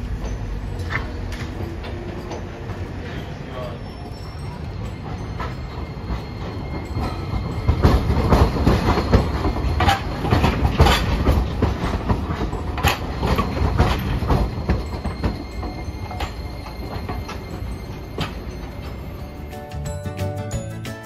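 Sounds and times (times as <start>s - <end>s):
tram wheels rumbling: 0.0s - 20.9s
clacks over rail joints: 0.1s - 3.4s, 4.6s - 19.9s.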